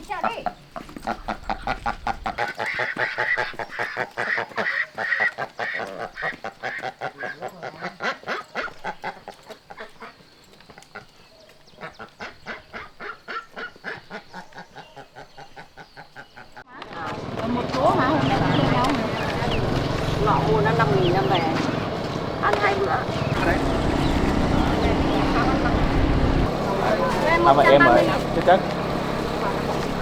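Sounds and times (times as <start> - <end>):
ducks quacking: 0.0 - 16.7, 17.7 - 30.0.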